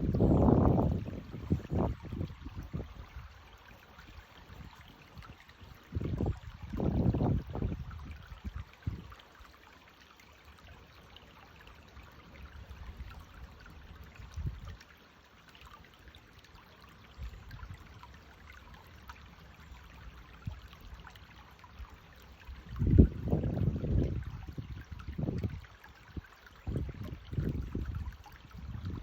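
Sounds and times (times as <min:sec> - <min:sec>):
small stream trickling: 0:00.0 - 0:29.0.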